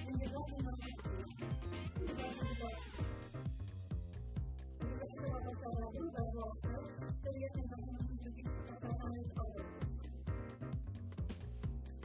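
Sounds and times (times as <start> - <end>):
kick-drum beat: 0.0 - 12.0.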